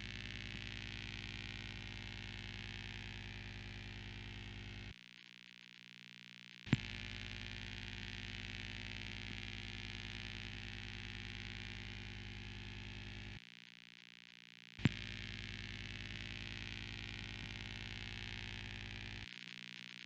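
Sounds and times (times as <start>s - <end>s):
low electronic buzz: 0.0s - 5.0s, 6.7s - 13.4s, 14.8s - 19.3s.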